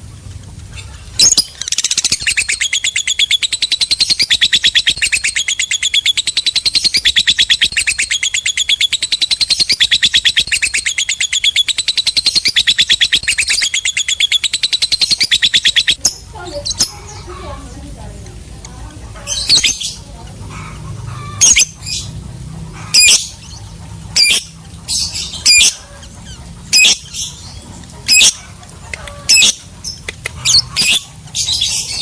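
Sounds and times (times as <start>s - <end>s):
lovebird chattering trill: 0.7s - 17.6s, 18.3s - 32.0s.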